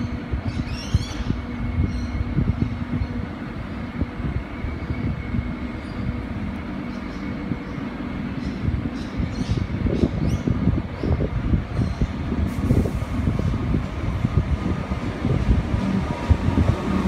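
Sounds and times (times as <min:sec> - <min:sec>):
electric train approaching: 0:00.0 - 0:17.0.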